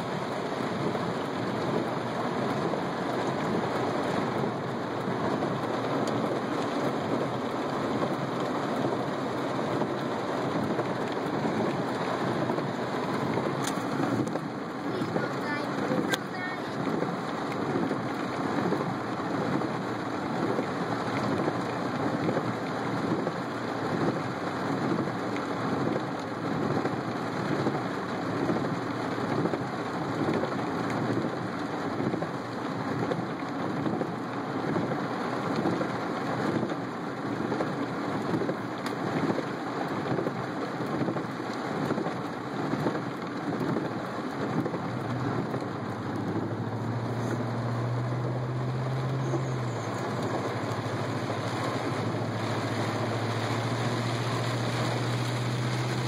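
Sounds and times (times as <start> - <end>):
heavy rain on a car roof: 0.0 - 56.0.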